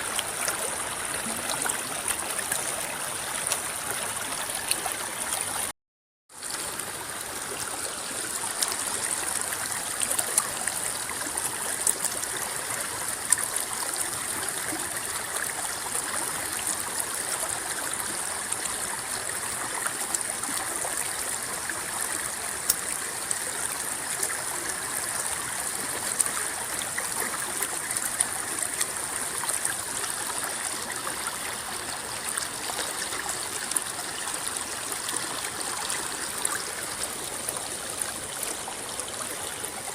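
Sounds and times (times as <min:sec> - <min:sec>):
river babbling over rocks: 0:00.0 - 0:05.7, 0:06.4 - 0:39.9.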